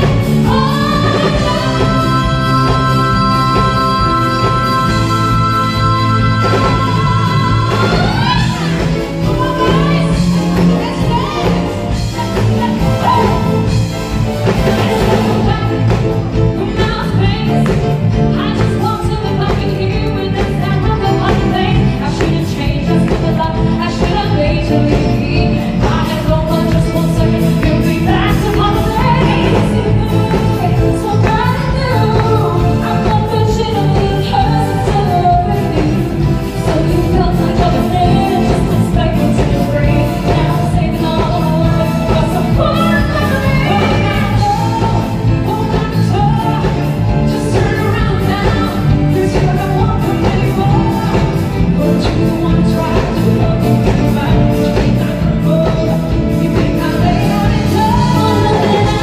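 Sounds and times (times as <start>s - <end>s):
female singers: 0.0s - 59.0s
live pop band playing: 0.0s - 59.0s.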